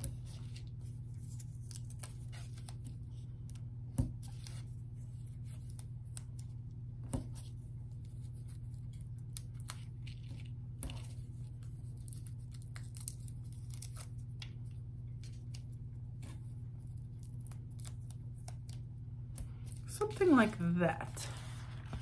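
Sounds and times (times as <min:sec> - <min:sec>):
rustles of peeling backing: 0:00.0 - 0:22.0
steady low hum: 0:00.0 - 0:22.0.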